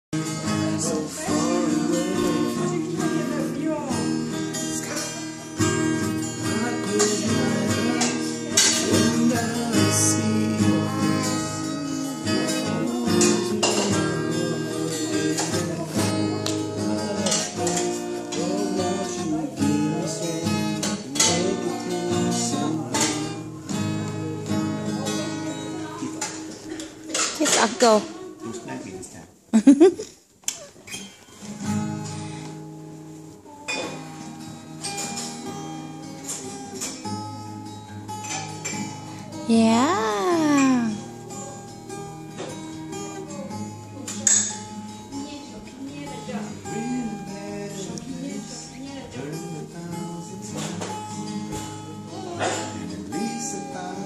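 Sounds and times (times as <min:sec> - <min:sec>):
acoustic guitar strumming chords: 0:00.2 - 0:29.0, 0:30.8 - 0:54.0.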